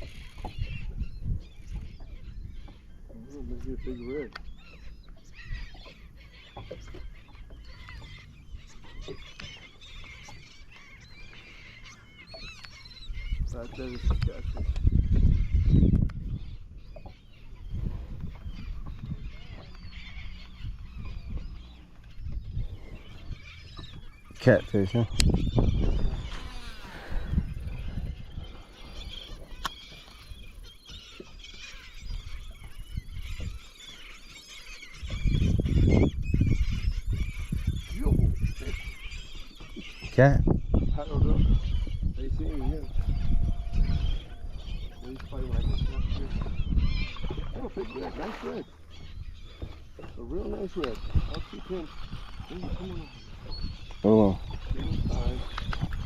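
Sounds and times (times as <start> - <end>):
seabirds squawking: 0.0 - 56.0.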